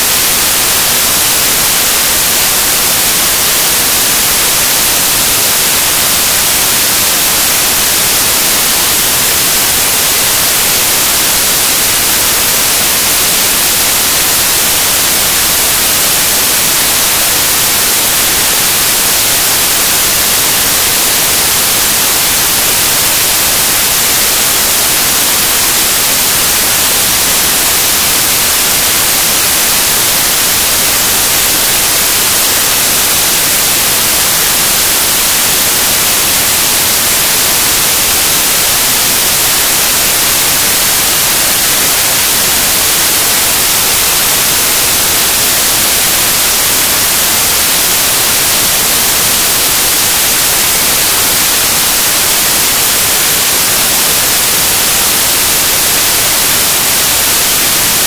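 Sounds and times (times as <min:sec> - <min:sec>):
static hiss: 0:00.0 - 0:58.0.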